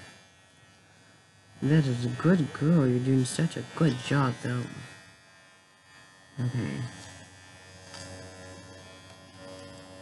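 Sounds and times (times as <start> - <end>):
electric hair clippers humming: 0.0 - 10.0.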